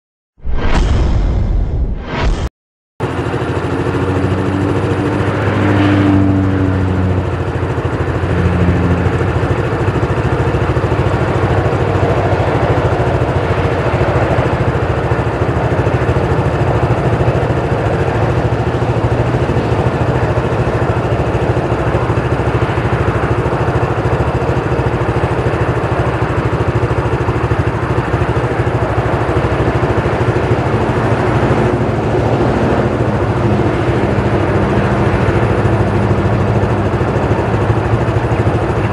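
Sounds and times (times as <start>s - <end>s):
combine harvester engine running: 3.0s - 38.9s.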